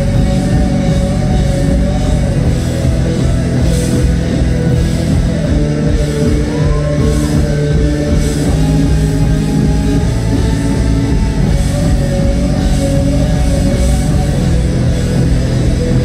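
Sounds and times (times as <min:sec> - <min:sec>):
drum kit: 0:00.0 - 0:16.0
electric guitars: 0:00.0 - 0:16.0.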